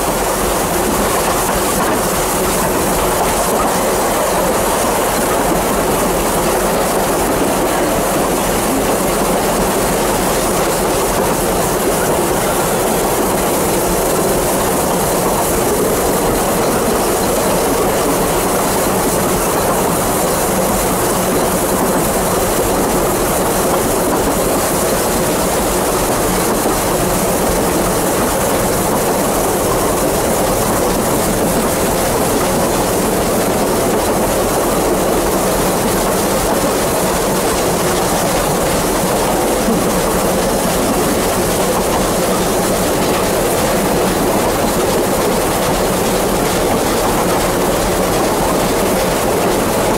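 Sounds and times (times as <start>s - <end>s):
train wheels on rails: 0.0s - 49.9s.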